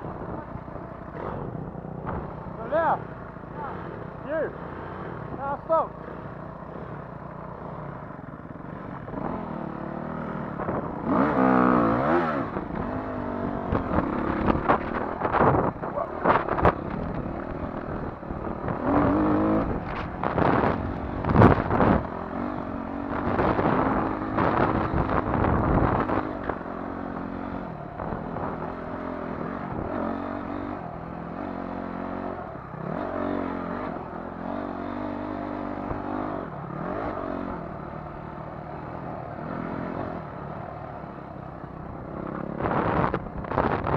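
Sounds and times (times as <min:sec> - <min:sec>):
dirt bike engine revving: 0:00.0 - 0:41.3, 0:42.0 - 0:43.9.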